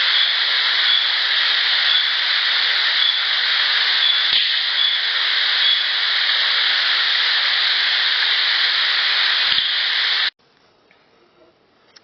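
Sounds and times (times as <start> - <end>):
loud steady hiss: 0.0 - 10.4.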